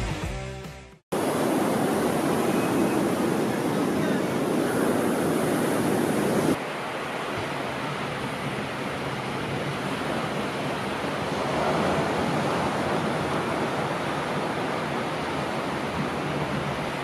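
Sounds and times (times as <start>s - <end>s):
waves breaking: 1.1s - 17.0s.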